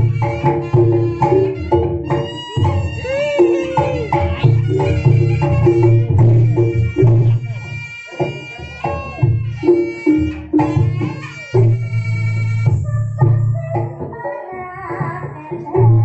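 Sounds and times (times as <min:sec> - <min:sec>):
reedy trumpet long notes: 0:00.0 - 0:13.7
drums in quick rhythm: 0:00.0 - 0:16.0.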